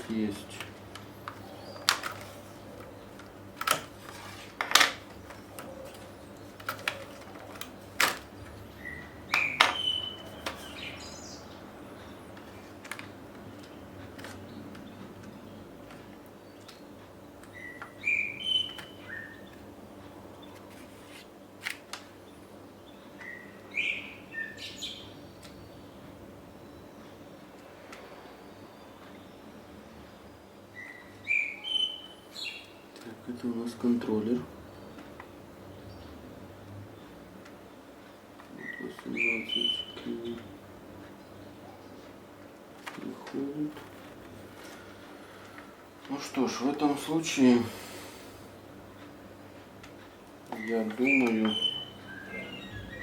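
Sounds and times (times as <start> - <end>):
bird chirping: 0.0 - 45.6, 46.2 - 53.0.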